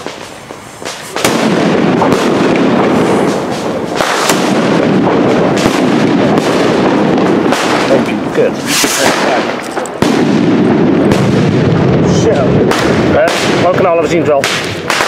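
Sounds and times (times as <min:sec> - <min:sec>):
firecracker fizzing and crackling: 0:00.0 - 0:15.0.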